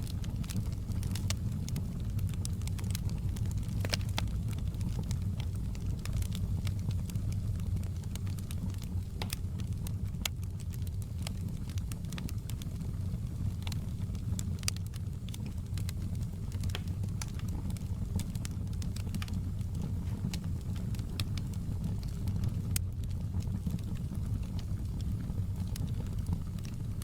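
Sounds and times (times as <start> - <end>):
fire pops and snaps: 0.0 - 27.0
low rumble of burning: 0.0 - 27.0.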